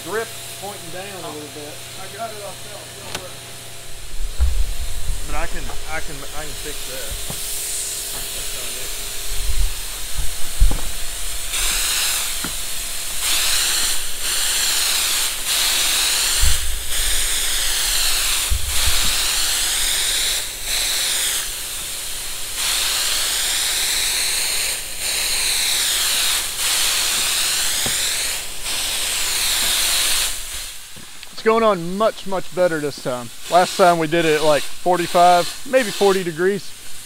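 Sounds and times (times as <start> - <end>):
spray gun hissing: 0.0 - 37.0.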